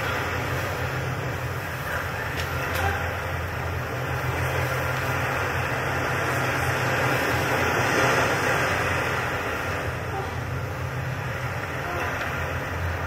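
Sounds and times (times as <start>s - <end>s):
low rumbling drone with hiss: 0.0s - 13.0s.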